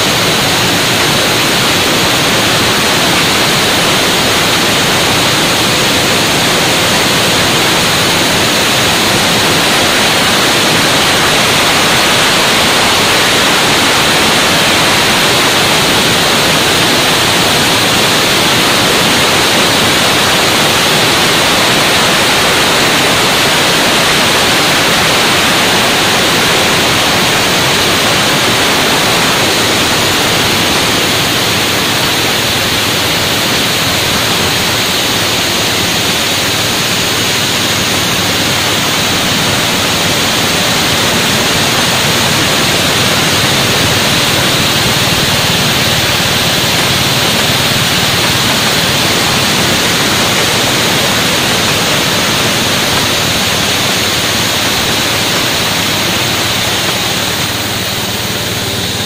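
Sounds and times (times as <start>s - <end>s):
engine-driven huller rushing noise: 0.0s - 59.0s.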